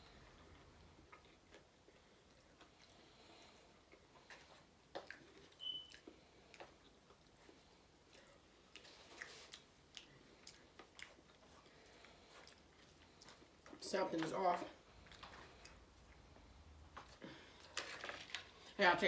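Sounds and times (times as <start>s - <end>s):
close chewing: 0.0s - 18.8s.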